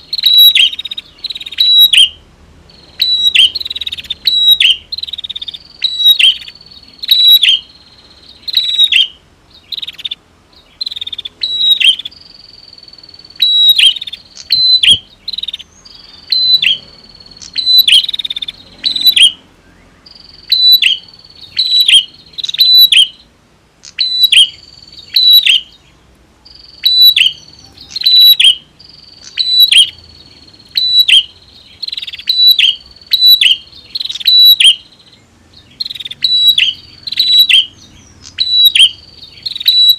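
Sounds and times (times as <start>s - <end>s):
bird calling sharp high notes: 0.0s - 25.8s, 26.5s - 35.0s, 35.7s - 39.9s.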